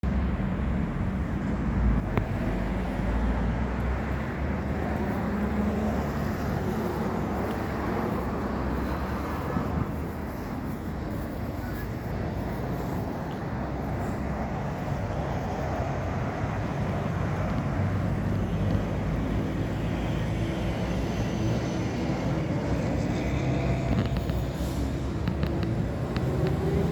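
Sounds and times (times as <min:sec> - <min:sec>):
diesel bus engine rumbling: 0:00.0 - 0:26.9.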